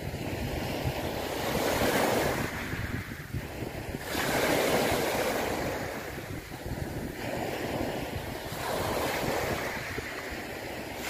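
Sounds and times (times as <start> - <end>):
sea water rushing: 0.0 - 11.0.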